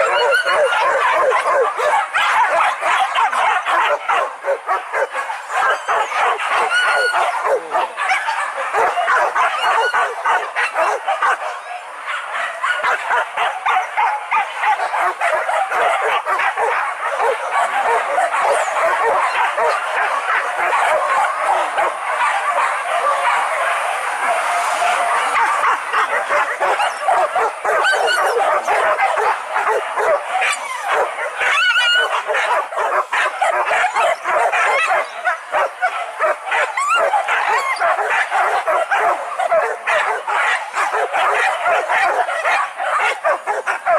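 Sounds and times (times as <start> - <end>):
dogs barking and yelping: 0.0 - 43.9.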